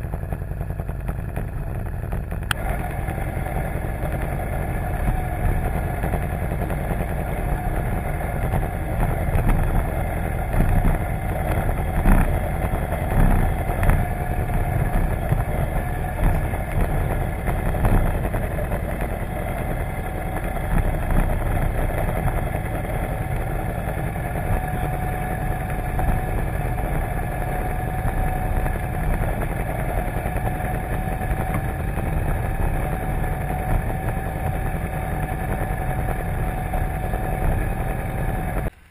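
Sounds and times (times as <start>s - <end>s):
atv engine idling: 0.0s - 38.9s.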